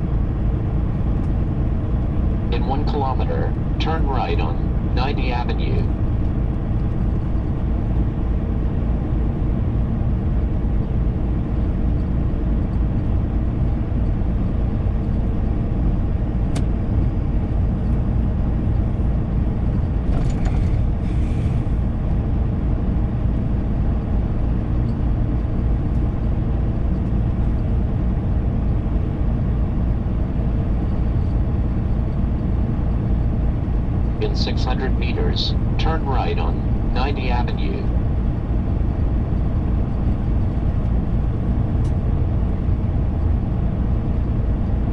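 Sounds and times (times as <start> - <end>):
diesel truck engine drone: 0.0 - 44.9.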